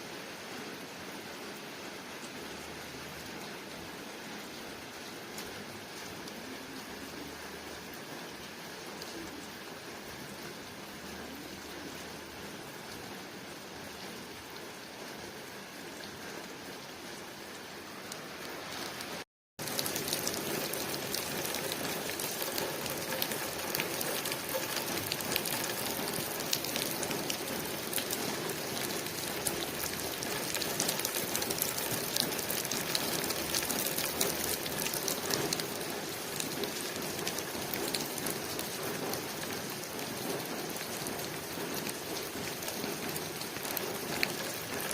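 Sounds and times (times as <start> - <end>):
rain on a window: 0.0 - 44.9.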